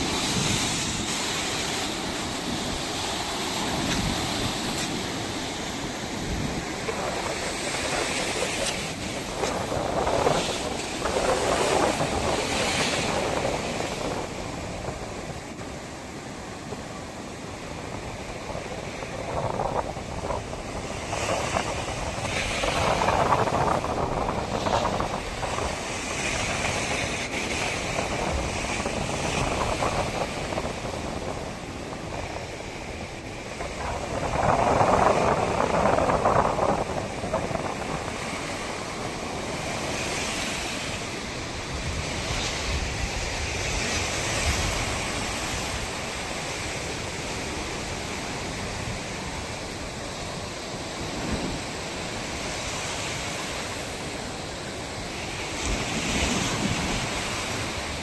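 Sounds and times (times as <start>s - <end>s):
ocean surf washing ashore: 0.0s - 58.0s
wind buffeting microphone: 0.0s - 58.0s.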